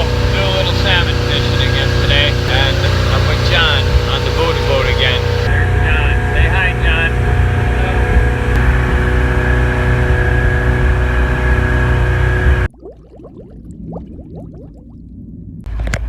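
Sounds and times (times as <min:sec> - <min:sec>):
boat engine rumbling: 0:00.0 - 0:12.7, 0:14.0 - 0:16.0.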